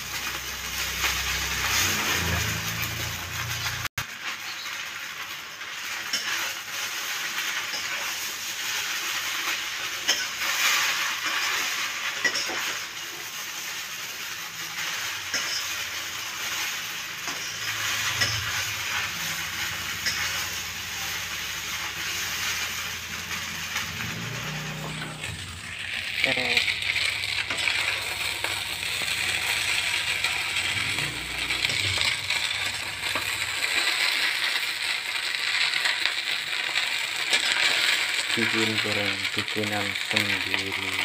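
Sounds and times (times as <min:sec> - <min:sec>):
metal spatula scraping a pan: 0:00.0 - 0:38.0
noodles sizzling in a wok: 0:00.0 - 0:41.0.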